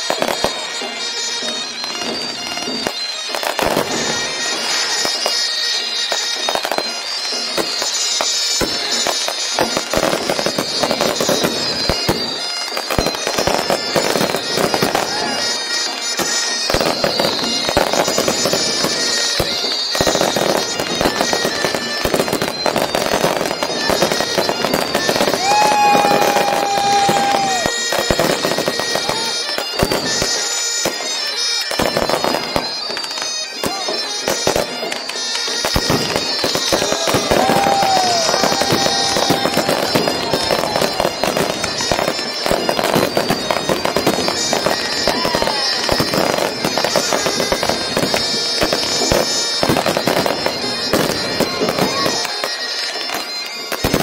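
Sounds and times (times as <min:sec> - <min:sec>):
fireworks bangs and crackling: 0:00.0 - 0:54.0
whistling firework shells: 0:00.0 - 0:54.0.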